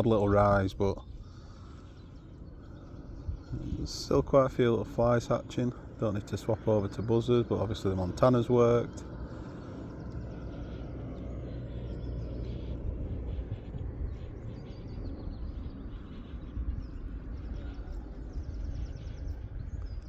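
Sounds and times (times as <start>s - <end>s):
small birds chirping: 0.0s - 20.0s
wind rumbling on microphone: 0.0s - 20.0s.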